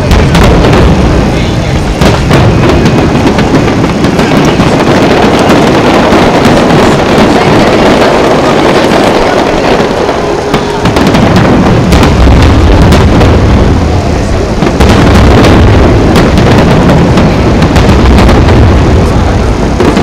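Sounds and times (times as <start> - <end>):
fireworks shells bursting: 0.0 - 20.0
sharp firework bangs: 0.0 - 20.0.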